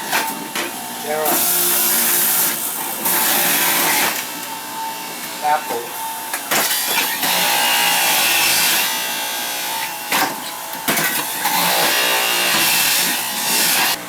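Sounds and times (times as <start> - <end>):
electric juicer grinding: 0.0 - 14.0.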